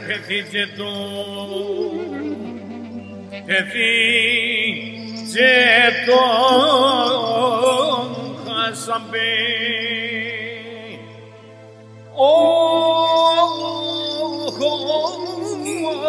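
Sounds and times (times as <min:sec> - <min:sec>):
person singing with vibrato: 0:00.0 - 0:11.3, 0:12.2 - 0:16.0
steady musical accompaniment: 0:00.0 - 0:16.0.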